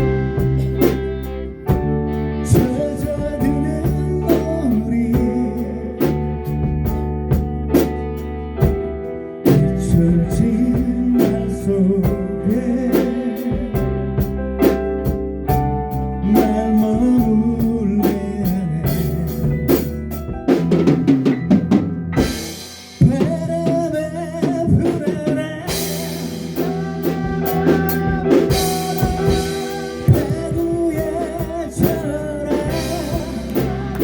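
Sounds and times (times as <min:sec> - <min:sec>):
person singing: 0:00.0 - 0:06.9, 0:09.4 - 0:14.4, 0:15.9 - 0:19.8, 0:22.4 - 0:34.0
rock band playing: 0:00.0 - 0:34.0.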